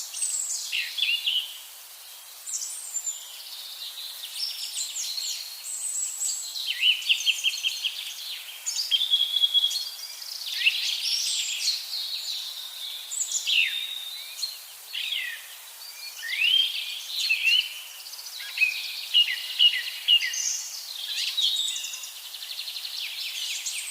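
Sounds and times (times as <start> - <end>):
songbirds singing: 0.0 - 23.9.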